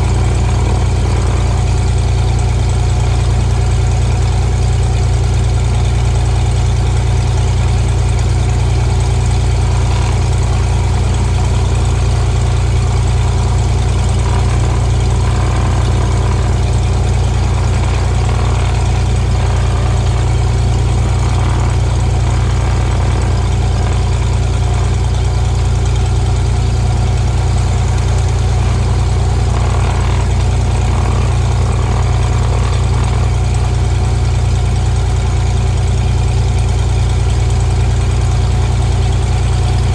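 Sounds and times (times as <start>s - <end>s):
airplane engine low drone: 0.0s - 39.9s.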